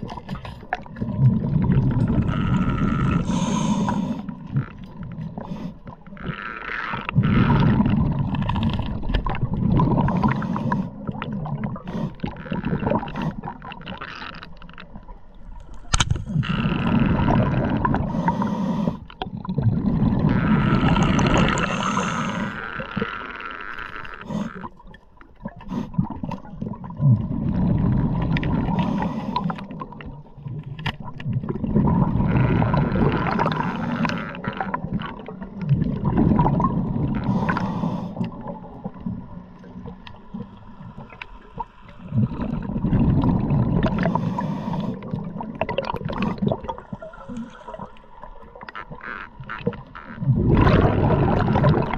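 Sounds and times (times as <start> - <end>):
underwater water rushing and bubbling: 0.0 - 51.9.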